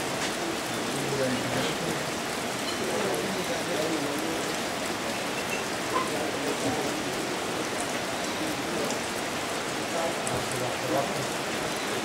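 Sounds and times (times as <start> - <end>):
rain on foliage: 0.0 - 12.0.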